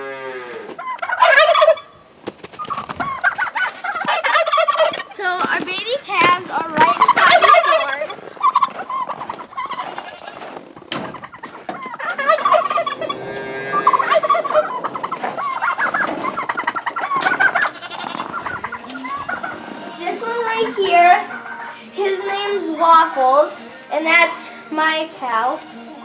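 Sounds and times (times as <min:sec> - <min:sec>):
poultry warbling calls: 0:00.5 - 0:26.0.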